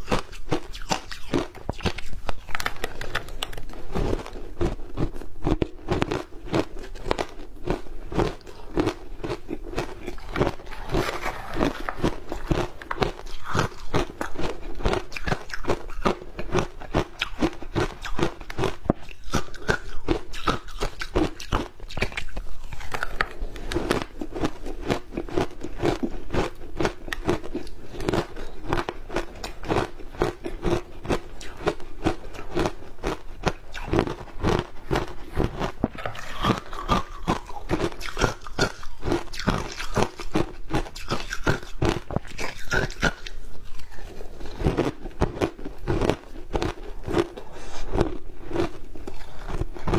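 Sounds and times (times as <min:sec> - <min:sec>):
ice being bitten and chewed: 0:00.0 - 0:49.9.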